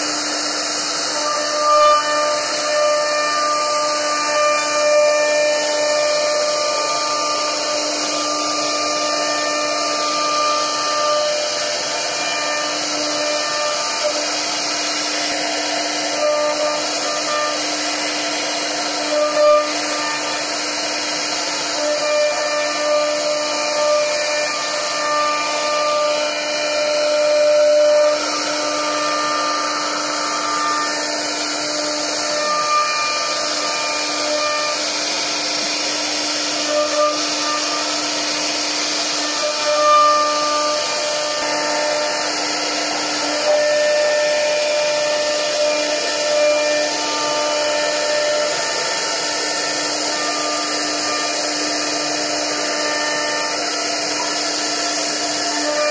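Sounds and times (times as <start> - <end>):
wood router whining: 0.0 - 55.9.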